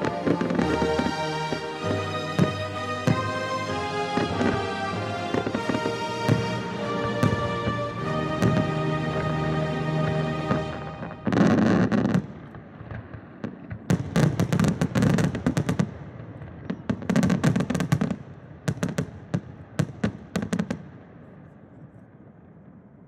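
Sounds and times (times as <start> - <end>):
deep fireworks booms: 0.0 - 21.1
fireworks bangs and crackles: 0.0 - 23.0.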